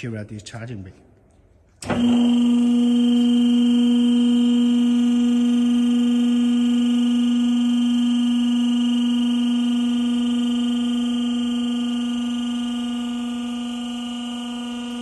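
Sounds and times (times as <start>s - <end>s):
electric warning buzzer tone: 1.9s - 15.0s.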